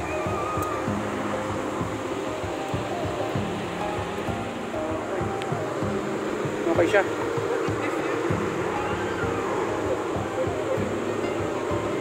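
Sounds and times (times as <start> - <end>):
background music with held notes: 0.0 - 12.0
steady noise: 0.0 - 12.0.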